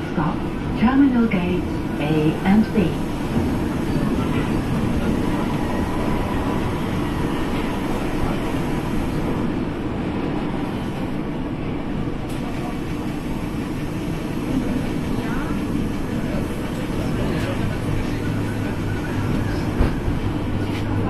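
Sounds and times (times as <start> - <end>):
monorail car rumbling: 0.0 - 21.0.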